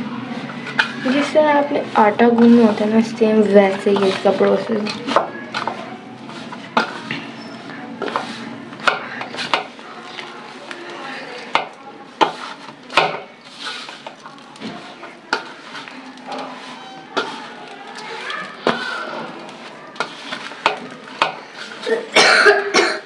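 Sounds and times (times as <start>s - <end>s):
hands kneading dough: 0.3s - 22.0s.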